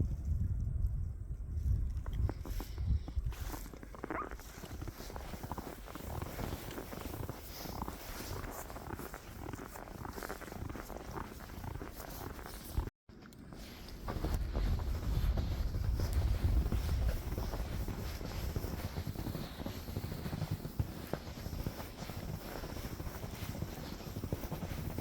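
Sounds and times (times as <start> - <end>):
wind buffeting microphone: 0.0 - 10.6, 13.6 - 25.0.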